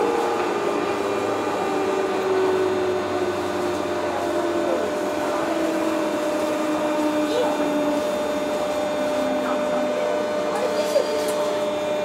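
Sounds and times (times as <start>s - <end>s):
electric train whirring hum: 0.0s - 12.0s.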